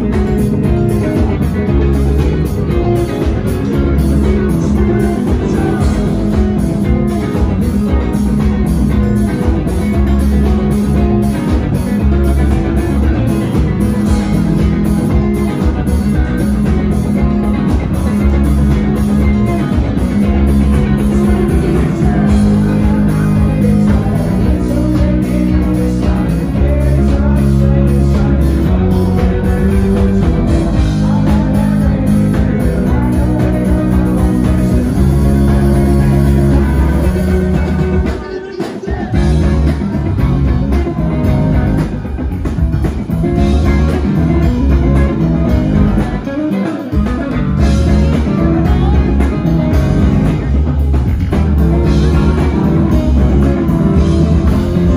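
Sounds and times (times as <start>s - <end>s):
bass guitar: 0.0s - 54.9s
drums: 0.0s - 54.9s
electric guitar: 0.0s - 54.9s.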